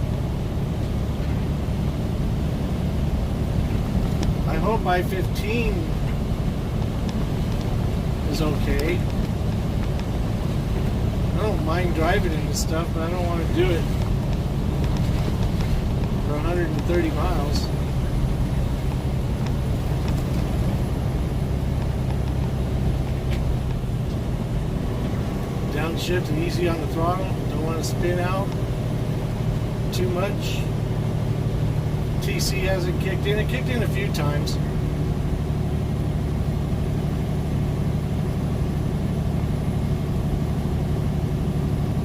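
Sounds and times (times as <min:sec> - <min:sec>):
road noise: 0:00.0 - 0:42.0
truck engine drone: 0:00.0 - 0:42.0.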